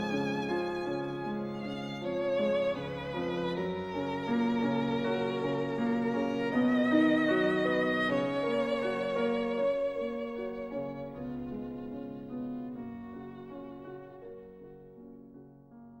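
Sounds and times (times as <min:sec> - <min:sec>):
violin background music: 0:00.0 - 0:14.8.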